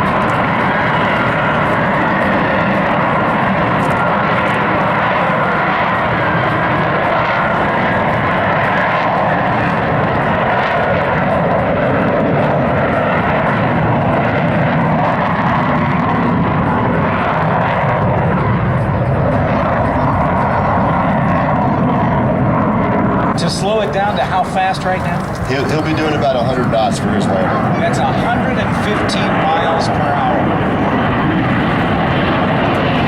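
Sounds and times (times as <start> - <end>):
jet engine roaring: 0.0 - 33.0.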